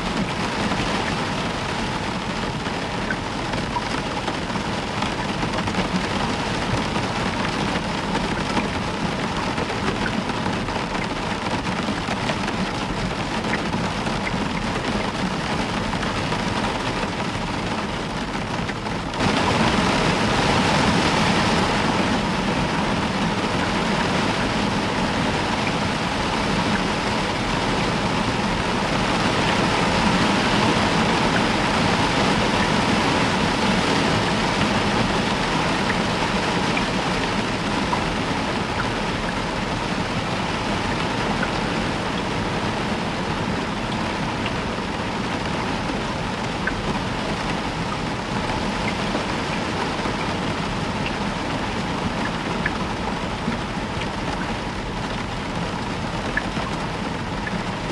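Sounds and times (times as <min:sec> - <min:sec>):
heavy rain on a roof: 0:00.0 - 0:57.9.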